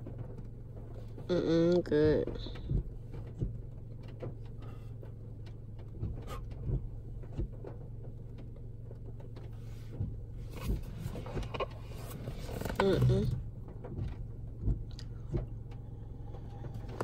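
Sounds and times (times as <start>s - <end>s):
car cabin hum: 0.0s - 17.0s.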